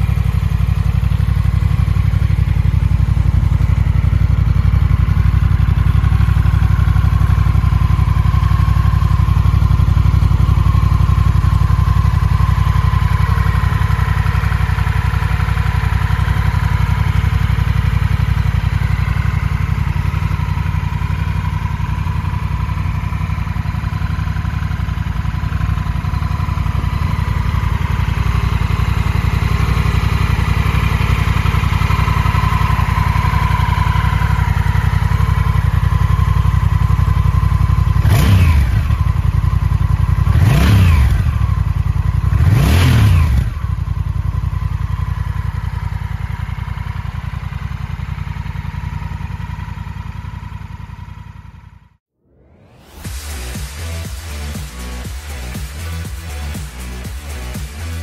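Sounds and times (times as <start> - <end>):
motorcycle throttle blips: 0.0 - 51.8
motorcycle engine idling: 0.0 - 58.0.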